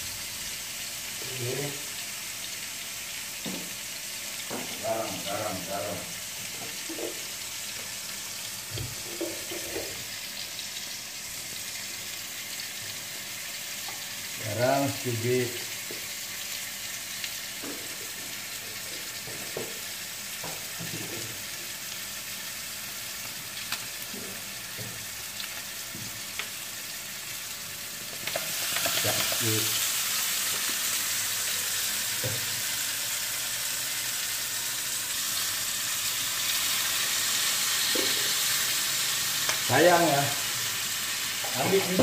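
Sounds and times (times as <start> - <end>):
chicken sizzling in a wok: 0.0 - 42.0.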